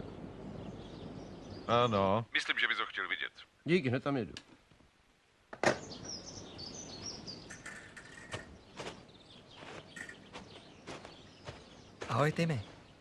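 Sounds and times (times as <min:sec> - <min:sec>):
birds chirping: 0:00.0 - 0:04.2, 0:05.0 - 0:13.0.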